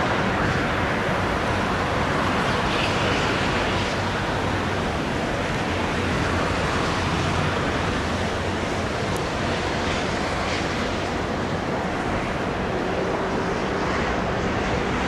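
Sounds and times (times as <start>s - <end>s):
distant jet engine roar: 0.0s - 15.0s.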